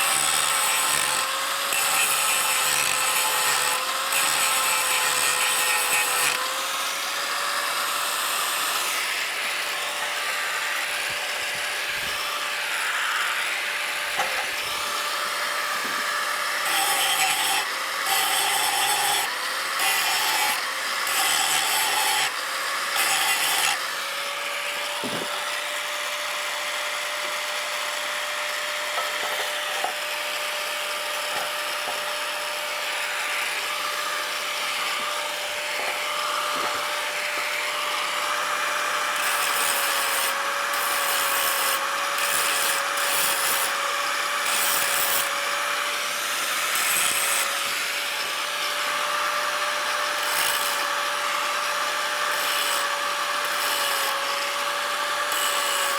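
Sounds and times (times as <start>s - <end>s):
power tool grinding metal: 0.0s - 55.9s.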